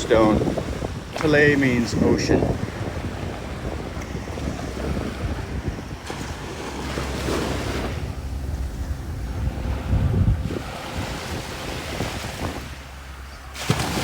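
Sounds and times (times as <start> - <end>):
small waves washing onto sand: 0.0 - 14.0
wind buffeting microphone: 0.0 - 14.0.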